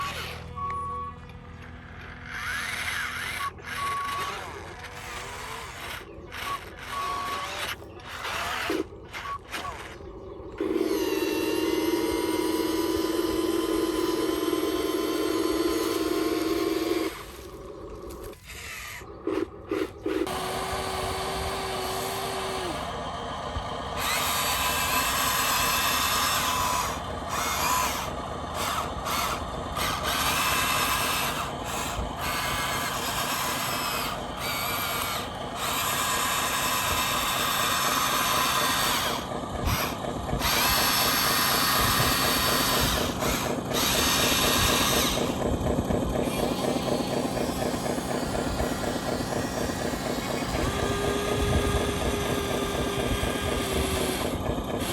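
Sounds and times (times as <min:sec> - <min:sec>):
electric motors whining: 0:00.0 - 0:54.9
steady low hum: 0:00.0 - 0:54.9.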